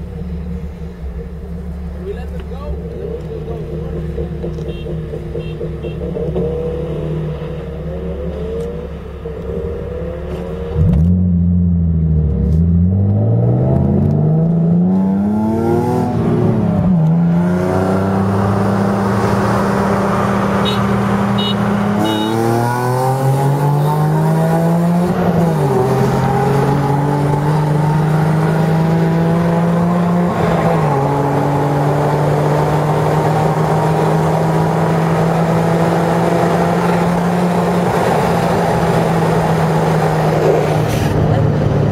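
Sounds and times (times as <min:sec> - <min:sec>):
car engine accelerating: 0:00.0 - 0:41.9.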